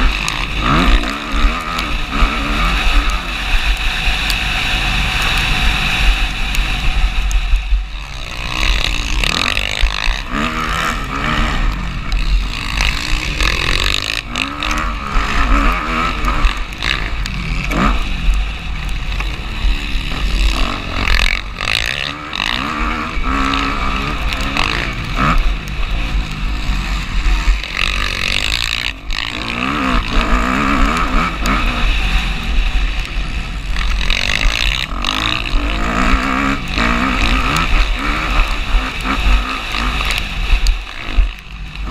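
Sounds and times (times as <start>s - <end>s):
motorcycle engine revving: 0.0s - 41.9s
wind buffeting on microphone: 0.0s - 41.9s.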